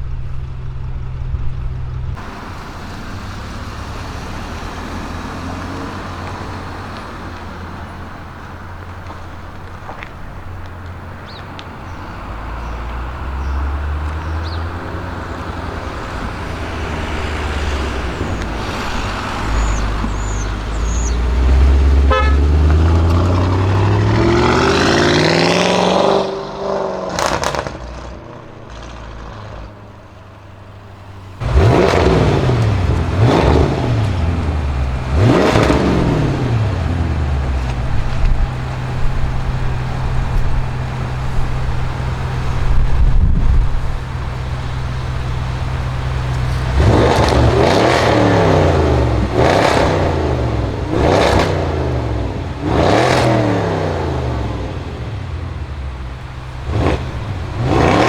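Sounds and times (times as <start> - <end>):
car engine idling: 0.0 - 25.3, 27.5 - 58.0
sharp exhaust cracks: 0.1 - 26.0, 27.0 - 58.0
car engine revving: 1.4 - 58.0.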